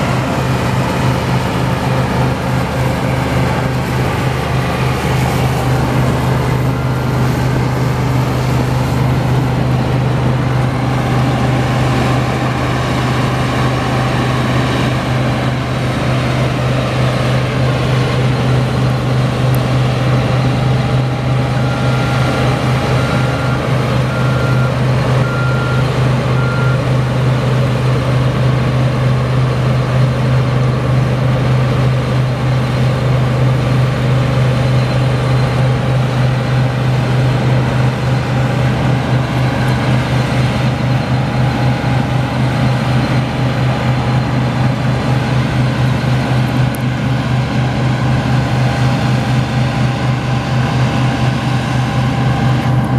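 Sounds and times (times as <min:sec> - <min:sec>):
combine harvester engine drone: 0:00.0 - 0:52.9.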